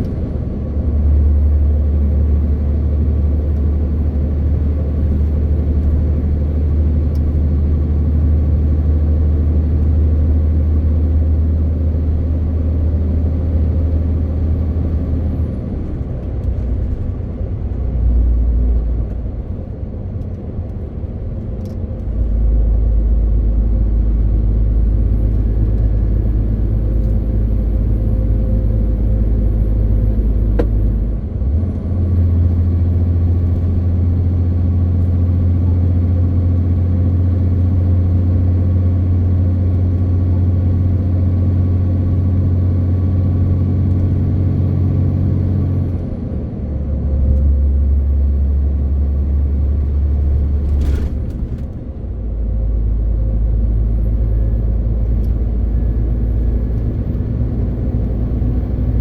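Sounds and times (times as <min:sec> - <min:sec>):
truck diesel engine droning: 0:00.0 - 0:59.0.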